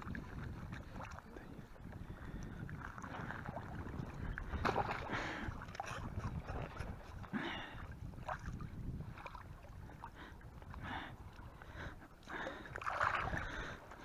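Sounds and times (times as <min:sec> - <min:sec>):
water lapping at bank: 0:00.0 - 0:14.0
wind rumbling on microphone: 0:00.0 - 0:14.0.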